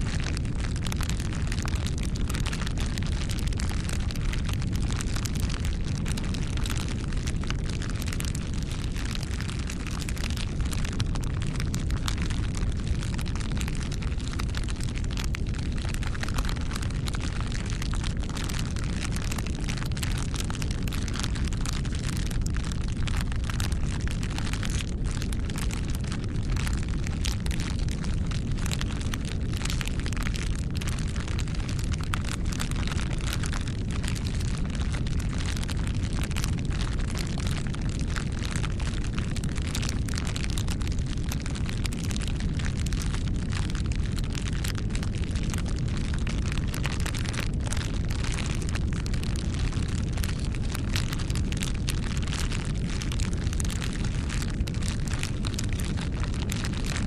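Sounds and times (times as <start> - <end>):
bonfire crackling and popping: 0.0 - 57.0
low rumble of flames: 0.0 - 57.0.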